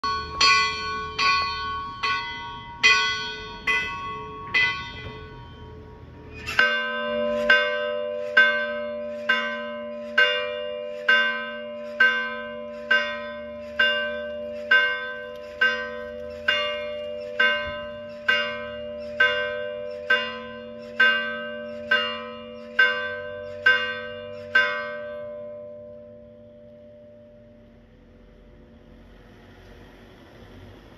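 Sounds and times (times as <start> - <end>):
church bell tolling: 0.0 - 28.6
deeper church bell tolling: 0.0 - 28.6.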